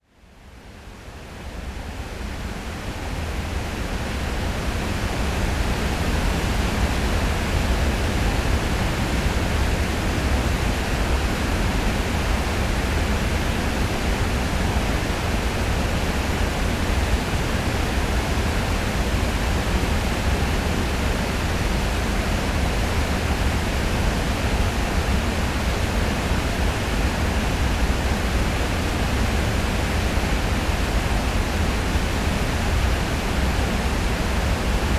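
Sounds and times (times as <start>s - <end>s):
river water pouring over a weir: 1.2s - 34.9s.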